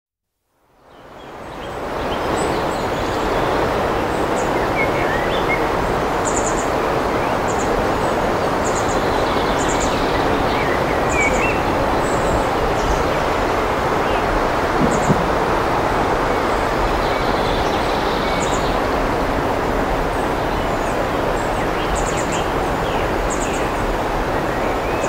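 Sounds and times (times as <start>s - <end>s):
river water rushing: 1.4s - 25.0s.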